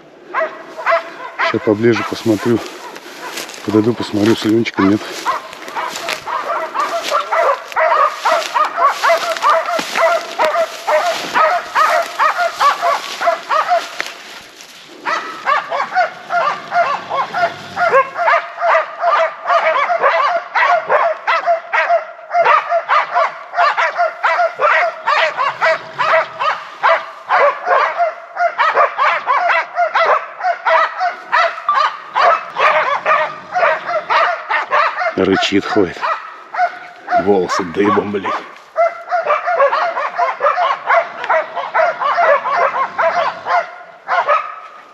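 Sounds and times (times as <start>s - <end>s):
dogs barking rapidly: 0.3s - 44.9s.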